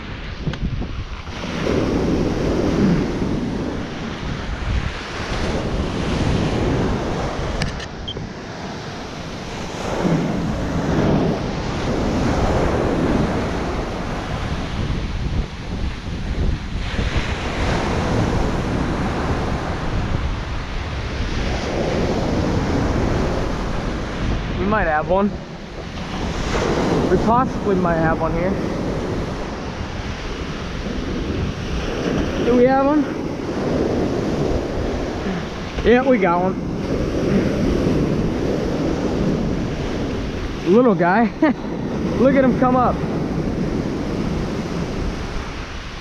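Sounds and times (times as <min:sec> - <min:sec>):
ocean surf breaking: 0:00.0 - 0:46.0
wind rumbling on microphone: 0:00.0 - 0:46.0.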